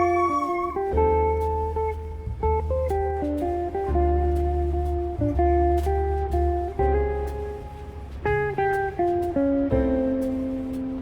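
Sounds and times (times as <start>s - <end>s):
plucked guitar melody: 0.0s - 11.0s
steady bass: 0.0s - 11.0s.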